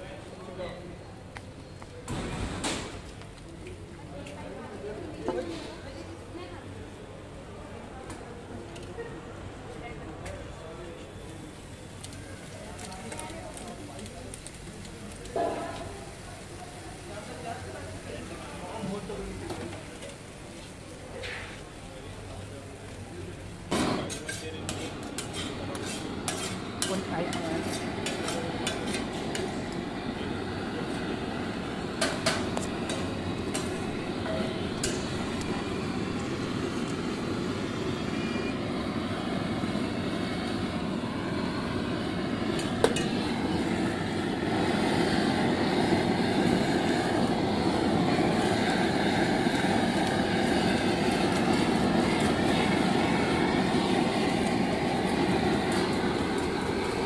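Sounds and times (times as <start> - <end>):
blowtorch flame hissing: 10.6 - 57.0.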